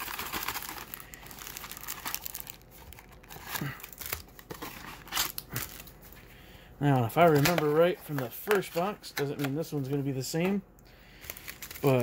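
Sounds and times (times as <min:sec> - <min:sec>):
foil packs crinkling: 0:00.0 - 0:06.2, 0:06.9 - 0:10.0, 0:11.1 - 0:12.0.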